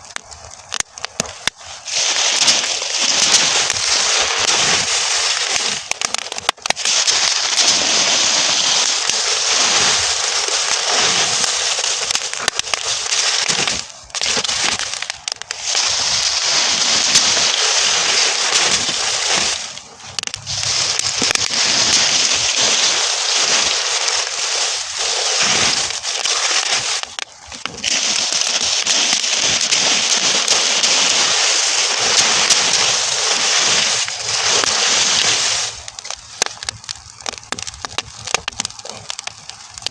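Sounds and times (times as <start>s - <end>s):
burning straw crackling: 0.0s - 39.9s.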